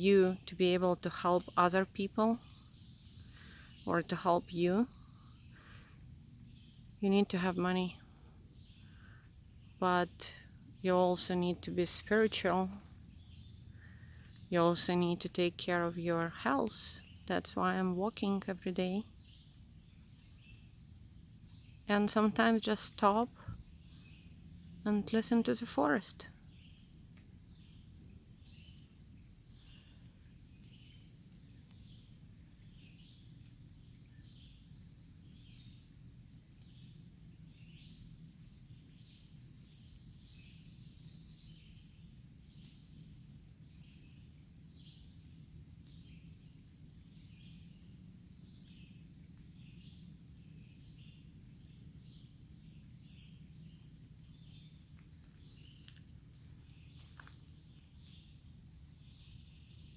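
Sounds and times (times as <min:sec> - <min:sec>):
insects trilling and chirping: 0:00.0 - 0:59.9.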